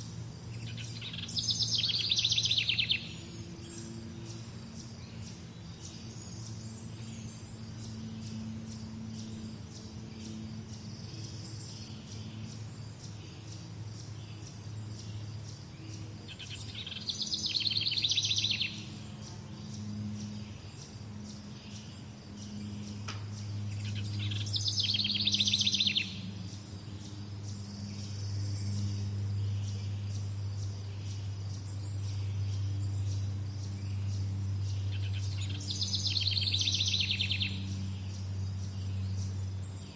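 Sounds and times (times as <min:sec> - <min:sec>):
birds chirping: 0:00.0 - 0:39.9
loud rapid bird trills: 0:00.0 - 0:39.9
steady low hum: 0:00.0 - 0:39.9.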